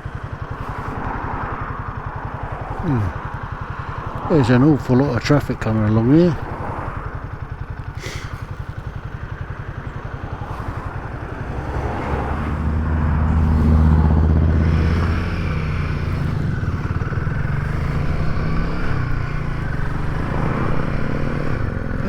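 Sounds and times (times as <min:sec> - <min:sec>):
motorcycle engine throbbing: 0:00.0 - 0:22.0.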